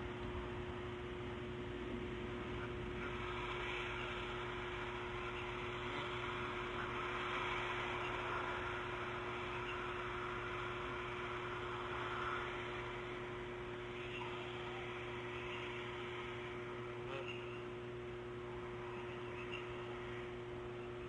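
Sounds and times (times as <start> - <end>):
electrical hum: 0.0 - 21.0
steady hiss: 0.0 - 21.0.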